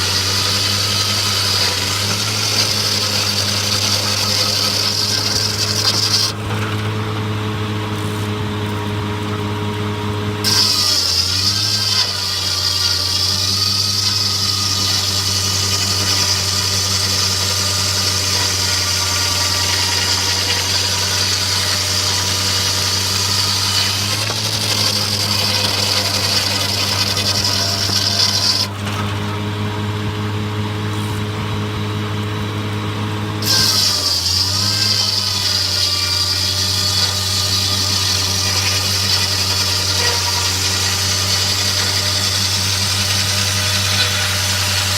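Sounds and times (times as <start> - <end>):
saw blade cutting log: 0.0 - 9.4, 10.4 - 29.7, 33.4 - 44.9
sawmill engine running: 0.0 - 44.9.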